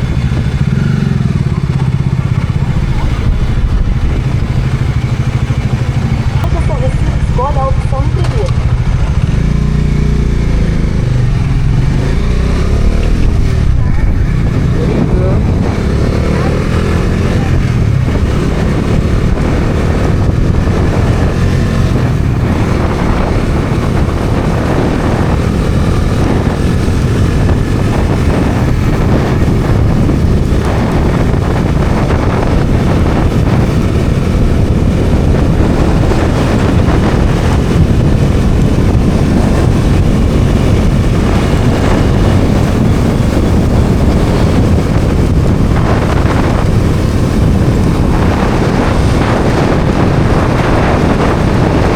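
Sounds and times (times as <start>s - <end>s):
motorcycle engine running: 0.0s - 51.9s
wind rush on microphone: 0.0s - 51.9s.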